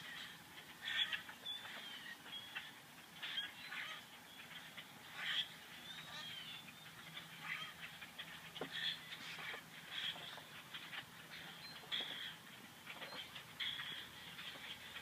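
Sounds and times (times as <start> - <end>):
harsh bird calls: 0.0 - 15.0.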